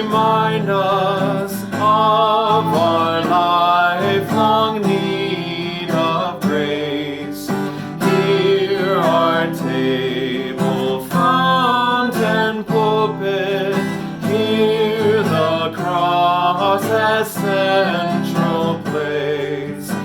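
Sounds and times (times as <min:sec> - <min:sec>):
acoustic guitar strumming: 0:00.0 - 0:20.0
person singing a hymn: 0:00.0 - 0:20.0.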